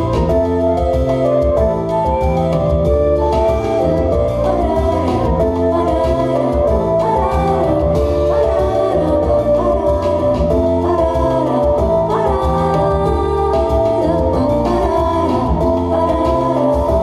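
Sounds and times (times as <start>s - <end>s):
pop backing track with beat: 0.0s - 17.0s
girl singing into microphone: 3.3s - 17.0s.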